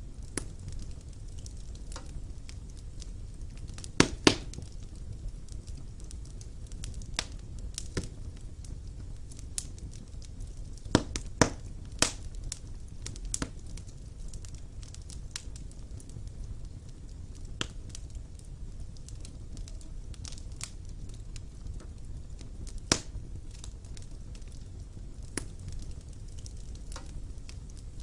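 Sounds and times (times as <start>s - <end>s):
wood fire crackling in a fireplace: 0.0s - 28.0s.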